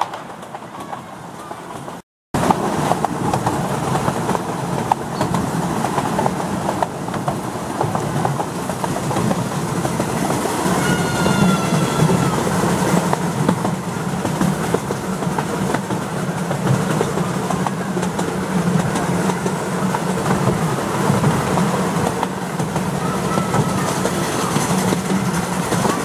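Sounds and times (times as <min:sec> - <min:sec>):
railway carriages rumbling on track: 0:00.0 - 0:26.0.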